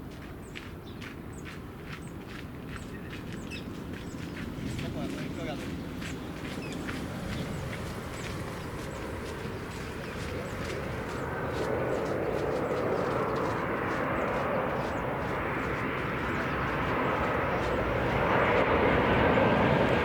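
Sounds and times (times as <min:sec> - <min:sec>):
jet airliner engine noise: 0:00.0 - 0:20.0.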